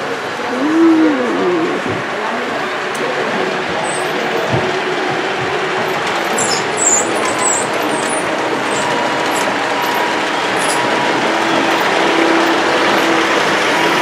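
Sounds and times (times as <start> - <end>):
model electric locomotive humming: 0.0 - 14.0
model train wheels rumbling on rail: 0.0 - 14.0.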